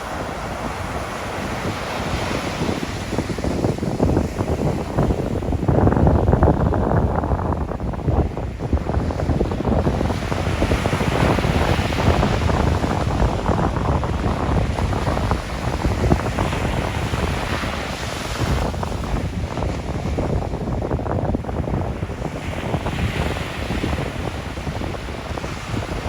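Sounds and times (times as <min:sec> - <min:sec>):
sea waves washing ashore: 0:00.0 - 0:26.0
wind buffeting microphone: 0:00.0 - 0:26.0.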